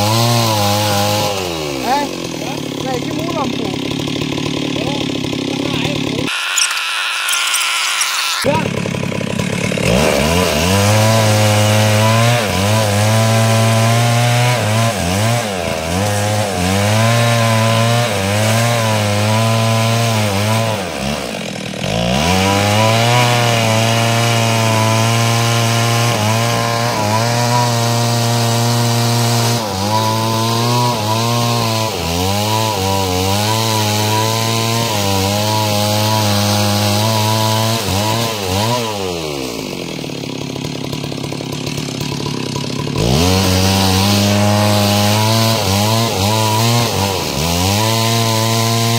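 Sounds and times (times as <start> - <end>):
chainsaw cutting a log: 0.0 - 48.9.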